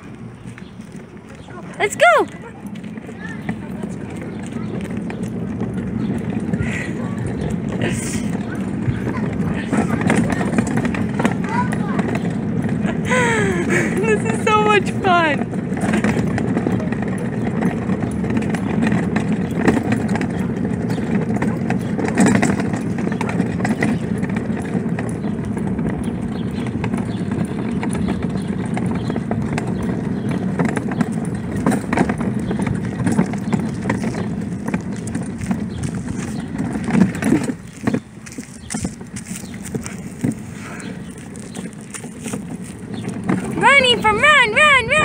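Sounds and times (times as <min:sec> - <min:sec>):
cart wheels rumbling on asphalt: 0:00.0 - 0:45.0
light footsteps: 0:00.0 - 0:45.0.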